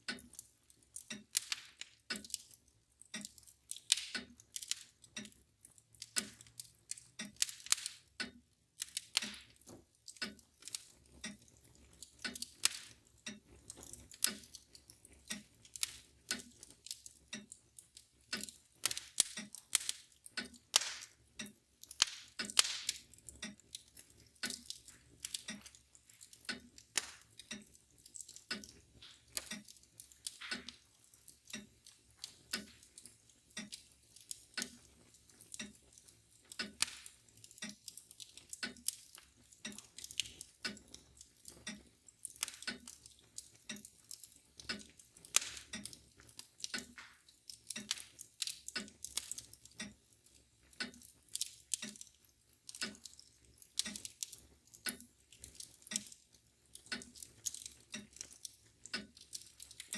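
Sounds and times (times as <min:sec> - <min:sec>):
mantel clock ticking: 0:00.0 - 0:59.9
wood fire crackling and popping: 0:00.0 - 0:59.9.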